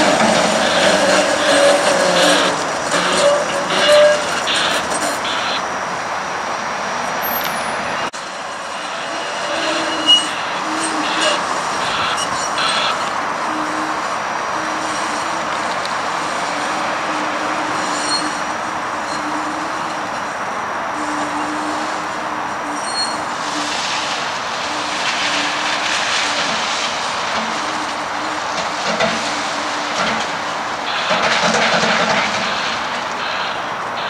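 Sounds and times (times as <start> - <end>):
high wheel squeals: 0.0 - 6.0, 6.9 - 34.0
streetcar electric hum and rolling: 0.0 - 34.0
wheels hissing on curved rail: 0.0 - 34.0.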